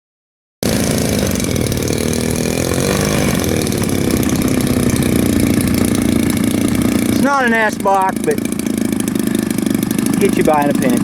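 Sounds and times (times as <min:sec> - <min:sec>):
small gasoline engine running: 0:00.6 - 0:11.0.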